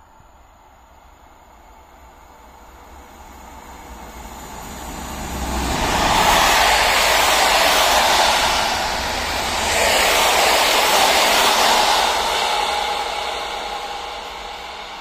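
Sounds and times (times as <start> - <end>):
passenger train rushing past: 1.3 - 15.0.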